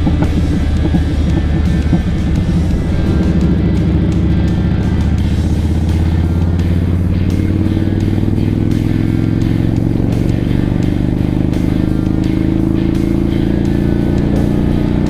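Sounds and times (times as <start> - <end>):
motorcycle engine running: 0.0 - 15.0
music: 0.0 - 15.0.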